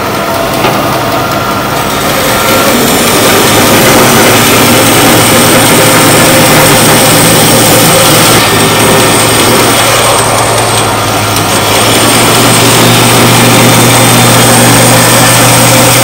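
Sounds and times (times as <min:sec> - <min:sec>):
band saw cutting wood: 0:00.0 - 0:16.0
low hum: 0:00.0 - 0:16.0.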